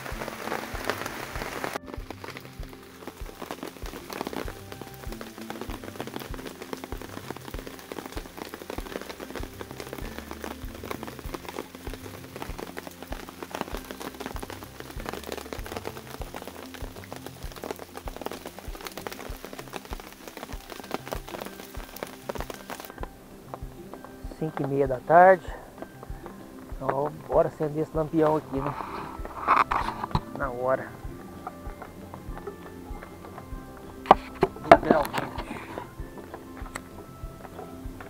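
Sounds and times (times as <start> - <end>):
faint background music: 0.0 - 38.0
steady rain falling: 0.0 - 38.0.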